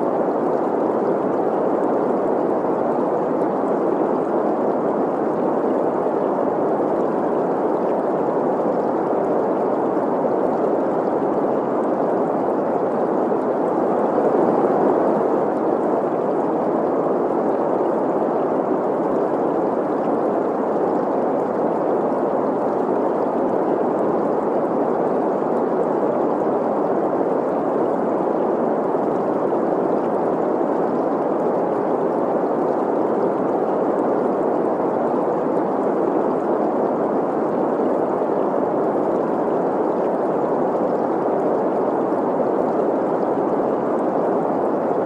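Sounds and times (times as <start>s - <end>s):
stream flowing: 0.0s - 45.0s.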